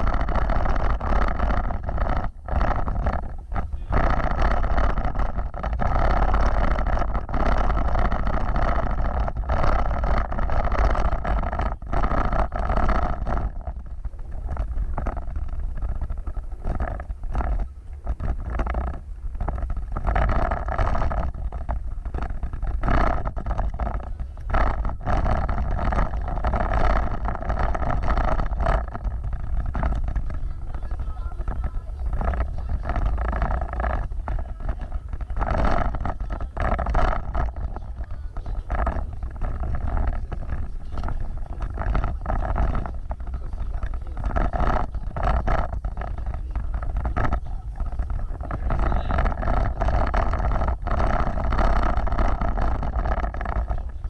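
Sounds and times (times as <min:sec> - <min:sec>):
vehicle driving over rough ground: 0:00.0 - 0:54.0.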